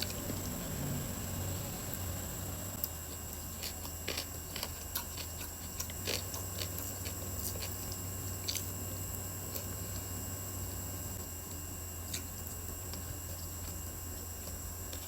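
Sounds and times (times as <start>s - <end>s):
mouth chewing food: 0.0s - 10.3s, 11.4s - 15.0s.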